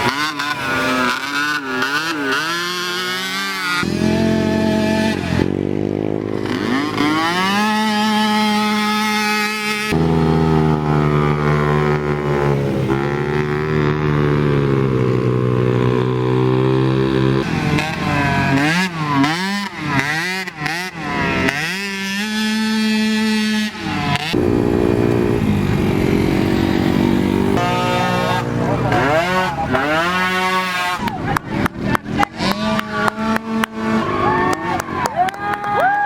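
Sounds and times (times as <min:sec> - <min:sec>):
atv engines revving: 0:00.0 - 0:36.0.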